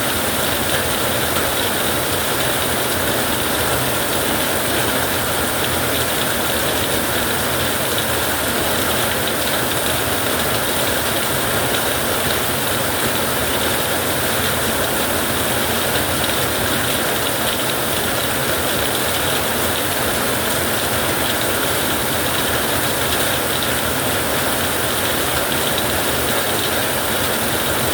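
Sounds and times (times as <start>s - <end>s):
heavy rain: 0.0s - 27.9s.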